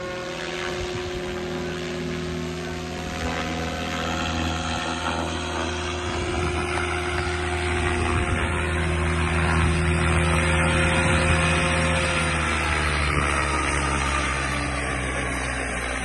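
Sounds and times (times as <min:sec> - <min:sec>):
rc helicopter rotor humming: 0:00.0 - 0:16.0.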